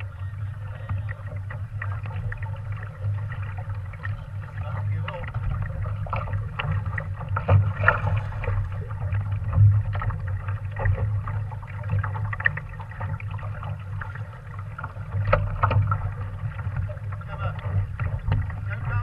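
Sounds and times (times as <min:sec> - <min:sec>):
steady low rumble: 0:00.0 - 0:19.0
water splashing against boat hull: 0:00.0 - 0:19.0.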